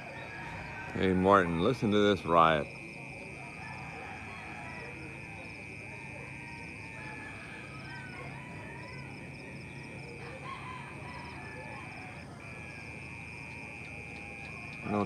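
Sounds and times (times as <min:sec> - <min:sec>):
insect high-pitched buzz: 0:00.0 - 0:15.0.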